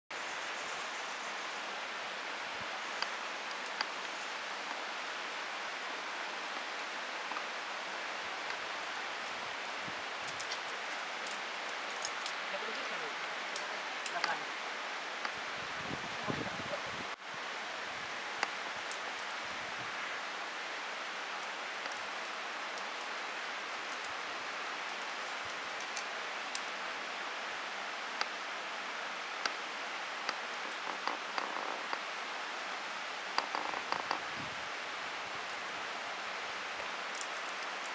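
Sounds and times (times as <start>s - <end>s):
outdoor background hiss: 0.1s - 37.9s.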